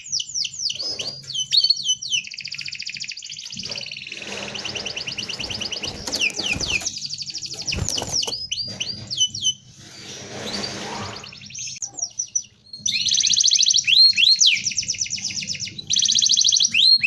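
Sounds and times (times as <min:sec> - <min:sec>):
canary singing trills and whistles: 0:00.0 - 0:09.7, 0:10.4 - 0:17.0.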